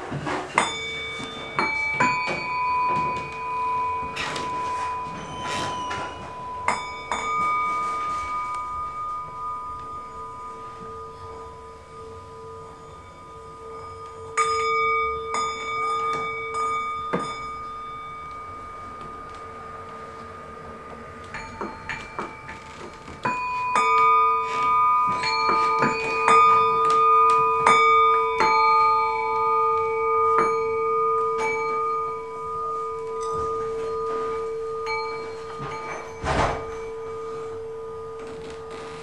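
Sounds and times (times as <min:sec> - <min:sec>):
metal chimes struck: 0:00.0 - 0:39.0
steady low ringing tone: 0:00.0 - 0:39.0.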